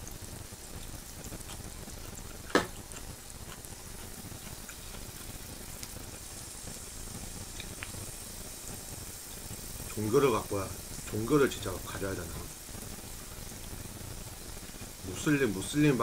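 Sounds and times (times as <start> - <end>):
light crackles: 0.0 - 16.0
meat sizzling on grill pan: 0.0 - 16.0.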